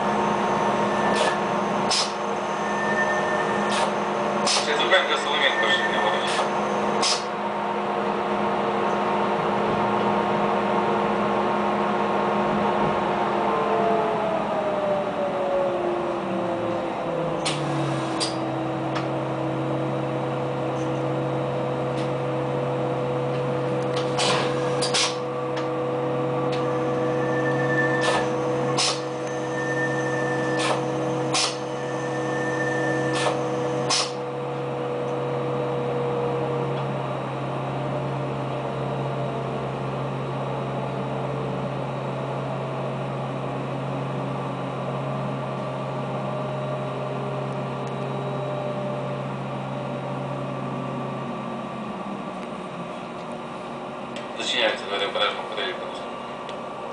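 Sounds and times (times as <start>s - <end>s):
steady whine: 0.0s - 56.9s
train engine low hum: 0.0s - 56.9s.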